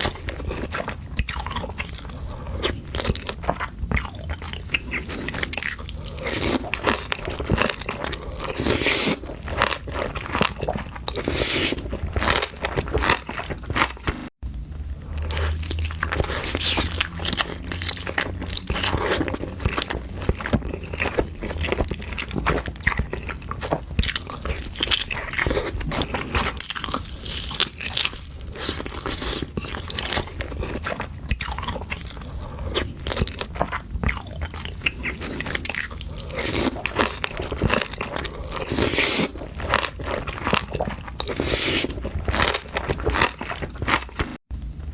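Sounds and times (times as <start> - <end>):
person crunching and chewing: 0.0 - 14.3, 14.9 - 44.4.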